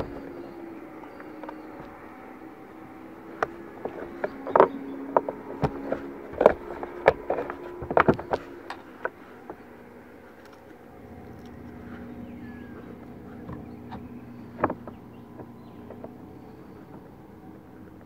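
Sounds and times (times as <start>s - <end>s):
fishing tackle clicks and knocks: 0.0s - 11.8s, 13.0s - 17.6s
steady low hum: 0.0s - 18.0s.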